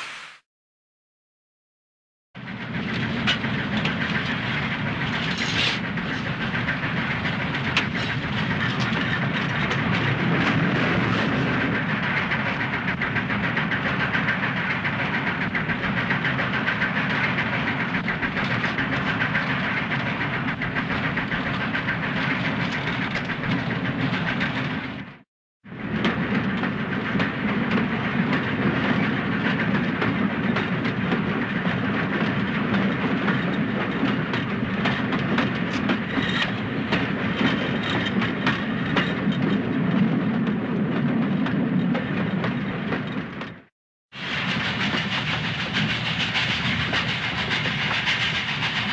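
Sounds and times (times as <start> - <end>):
train wheels clicking on rails: 2.4 - 48.9.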